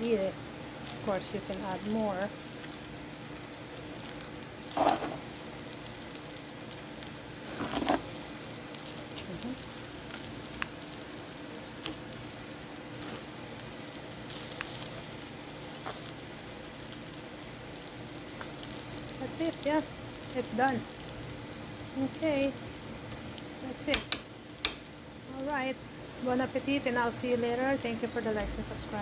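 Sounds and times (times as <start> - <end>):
noodles sizzling in a pan: 0.0 - 29.0.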